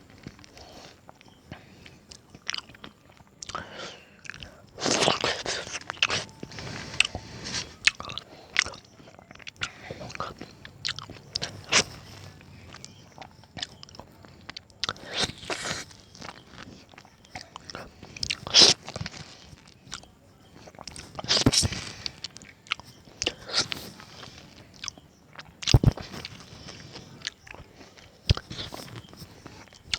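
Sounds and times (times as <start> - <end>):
person chewing wetly: 0.0 - 29.9
fruit bites: 0.1 - 29.9.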